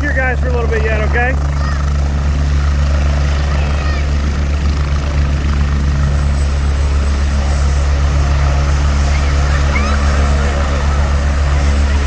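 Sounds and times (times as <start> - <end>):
helicopter rotor drone: 0.0 - 12.0
high turbine whine: 0.0 - 12.0.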